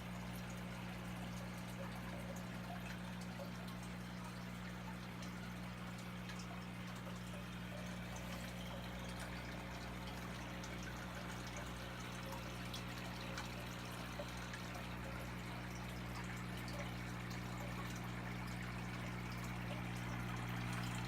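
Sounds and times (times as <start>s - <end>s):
water drips: 0.0s - 21.0s
water trickling into fish tank: 0.0s - 21.0s.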